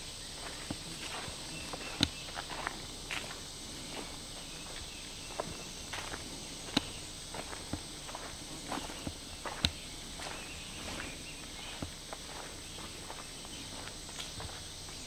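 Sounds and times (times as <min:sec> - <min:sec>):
footsteps crunching on dirt trail: 0:00.0 - 0:15.0.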